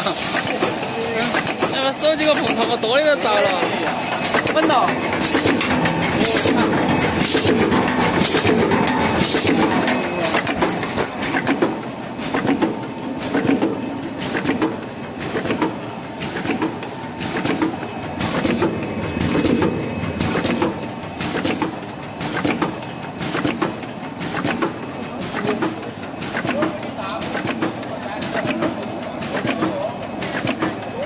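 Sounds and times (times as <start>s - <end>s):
machine rhythmic clatter: 0.0s - 31.0s
sharp machine clicks: 0.1s - 31.0s.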